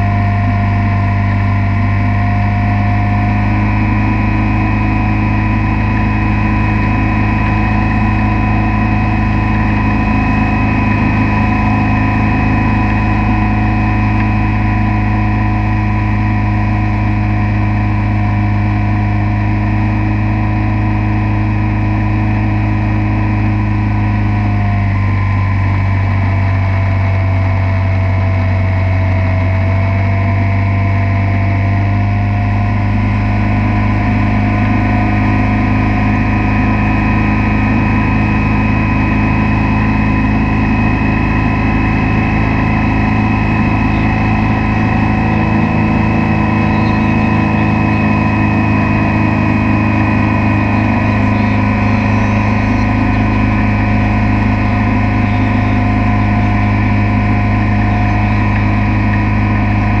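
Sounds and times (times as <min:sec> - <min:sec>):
motorboat engine drone: 0:00.0 - 1:00.0.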